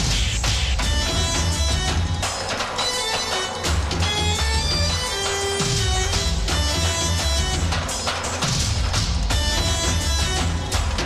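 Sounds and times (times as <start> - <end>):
drum and bass music: 0.0 - 11.0.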